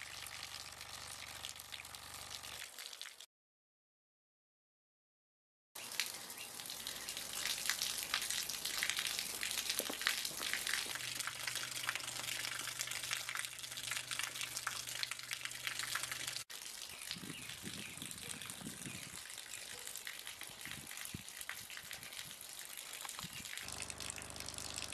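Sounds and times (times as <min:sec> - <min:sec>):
water pouring from a hose: 0:00.0 - 0:03.3, 0:05.8 - 0:24.9.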